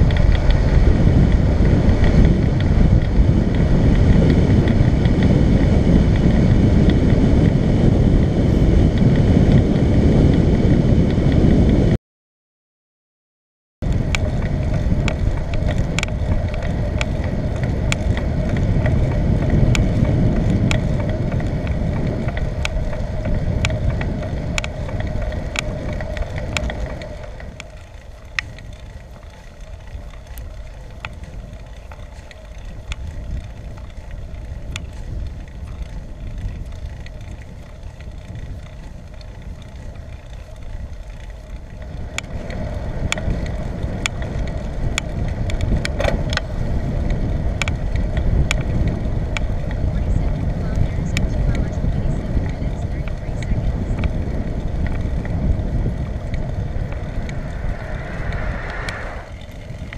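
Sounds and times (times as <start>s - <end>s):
small sharp ticks and rattles: 0.0s - 7.5s, 13.8s - 59.9s
bicycle tyre rumble: 0.0s - 12.0s, 13.8s - 59.9s
wind on microphone: 0.0s - 12.0s, 13.8s - 59.9s.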